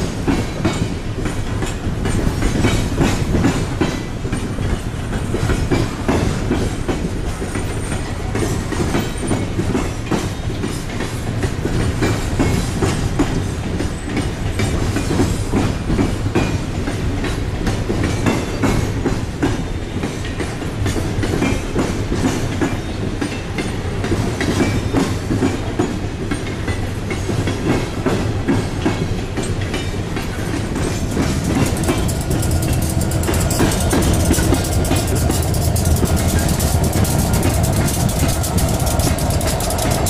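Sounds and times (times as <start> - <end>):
low train rumble: 0.0 - 40.0
train wheels clattering on rails: 0.0 - 40.0.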